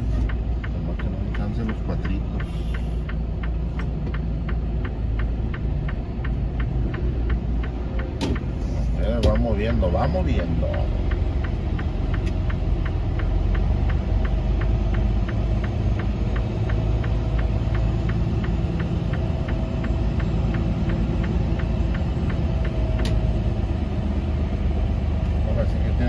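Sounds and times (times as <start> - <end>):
diesel engine rumbling: 0.0 - 26.0
even ticking: 0.0 - 26.0.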